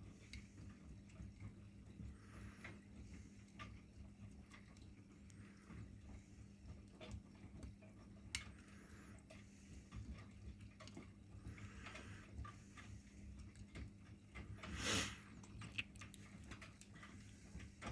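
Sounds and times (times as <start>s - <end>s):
washing machine hum: 0.0s - 17.9s
soft clicks and ticks: 0.2s - 14.7s.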